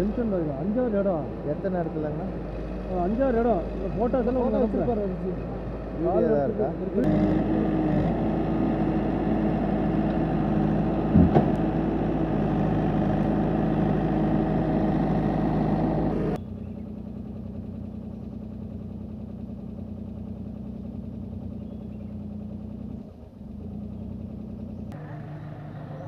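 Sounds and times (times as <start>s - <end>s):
diesel engine running: 0.0s - 26.0s
quieter engine hum: 0.0s - 26.0s.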